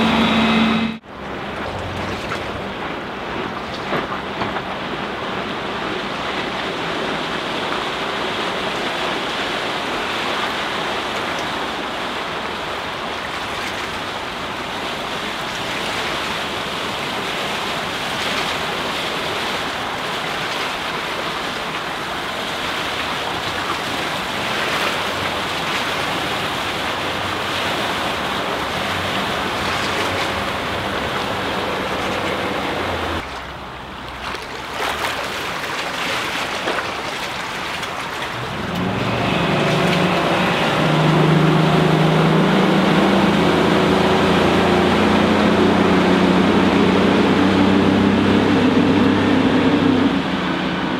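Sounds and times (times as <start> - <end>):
faint low boat engine hum: 0.0 - 50.9
wind and water rushing: 0.0 - 50.9.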